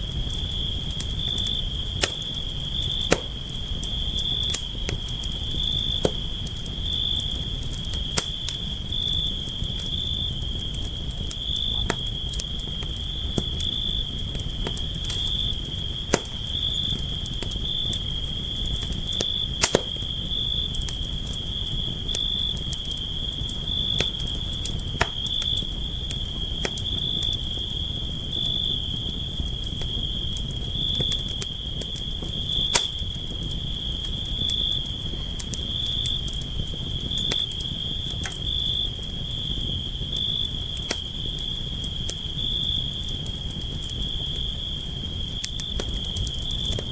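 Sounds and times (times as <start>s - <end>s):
campfire crackling and popping: 0.0s - 46.9s
crickets trilling: 0.0s - 46.9s.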